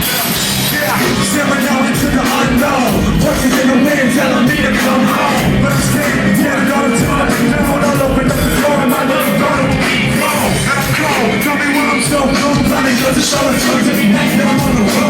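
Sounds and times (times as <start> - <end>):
drum beat: 0.0 - 15.0
live concert music: 0.0 - 15.0.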